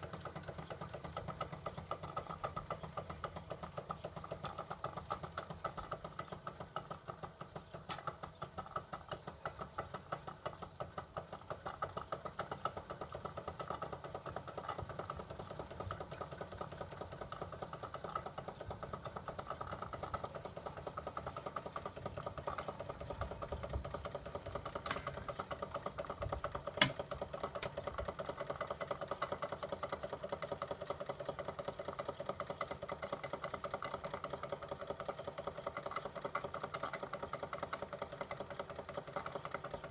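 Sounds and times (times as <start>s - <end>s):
toy steam engine chuffing: 0.0s - 39.9s.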